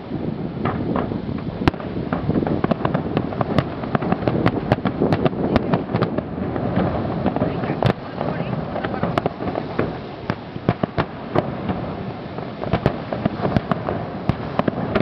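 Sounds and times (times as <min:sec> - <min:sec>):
low rumble of firework booms: 0:00.0 - 0:15.0
sharp firework cracks and pops: 0:00.0 - 0:15.0.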